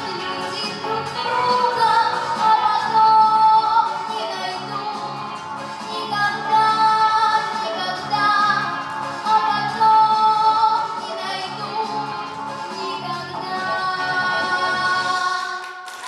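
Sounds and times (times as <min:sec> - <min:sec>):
pop backing track: 0:00.0 - 0:16.0.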